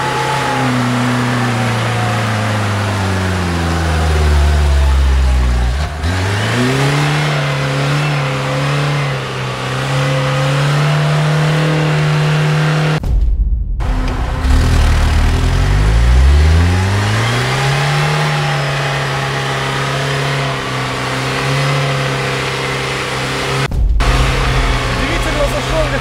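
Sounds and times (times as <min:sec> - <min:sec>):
car engine revving under load: 0:00.0 - 0:13.0, 0:13.8 - 0:26.0.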